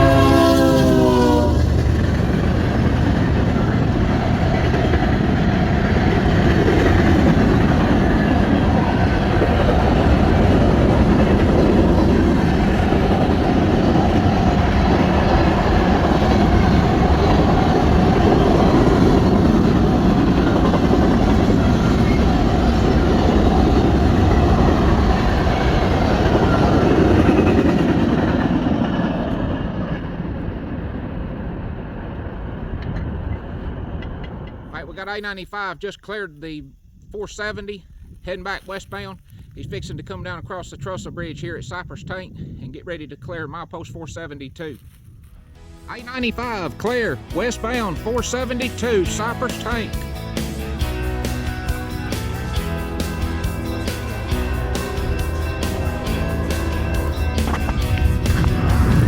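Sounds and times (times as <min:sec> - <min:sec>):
train passing on rails: 0:00.0 - 0:37.0, 0:43.7 - 0:59.0.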